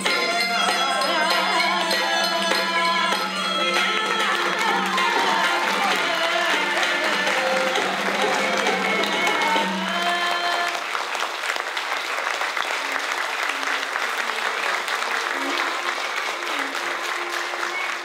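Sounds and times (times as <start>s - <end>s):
music ensemble held notes: 0.0s - 11.0s, 13.4s - 18.0s
audience applause: 0.0s - 18.0s.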